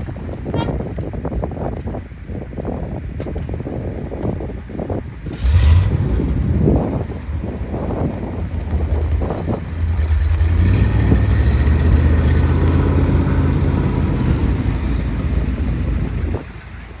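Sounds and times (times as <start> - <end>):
truck engine running: 0.0 - 2.2, 5.2 - 17.0.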